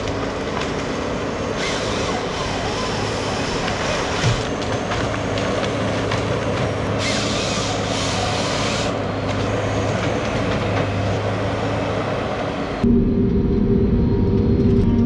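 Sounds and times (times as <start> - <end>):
harvester engine running: 0.0 - 15.0.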